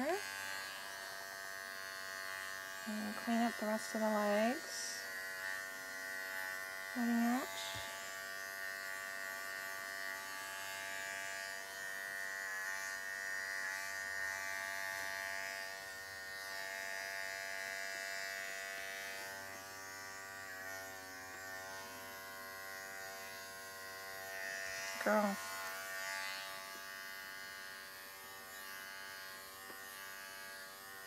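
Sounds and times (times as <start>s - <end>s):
hair clipper buzzing: 0.0s - 31.0s.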